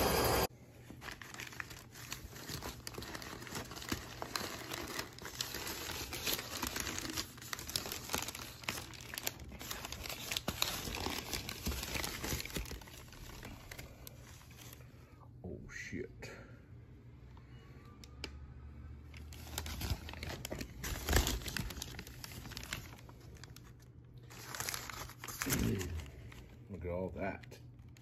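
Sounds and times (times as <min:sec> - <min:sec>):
packing paper rustling and crinkling: 0:00.4 - 0:15.1, 0:19.1 - 0:28.0.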